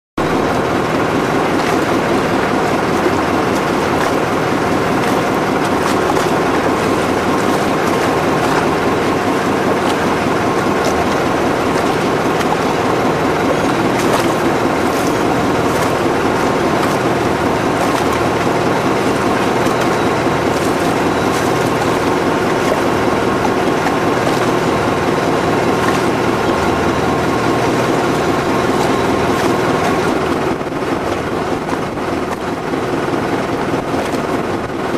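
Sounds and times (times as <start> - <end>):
boat engine droning: 0.2 - 34.9
rushing water noise: 0.2 - 34.9.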